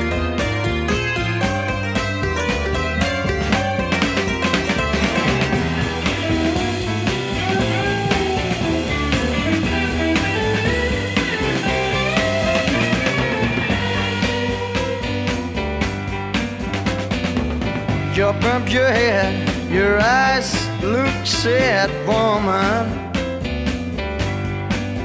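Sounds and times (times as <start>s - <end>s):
bass guitar: 0.0s - 25.0s
drum kit beat: 0.0s - 25.0s
lead guitar bending notes: 0.0s - 25.0s.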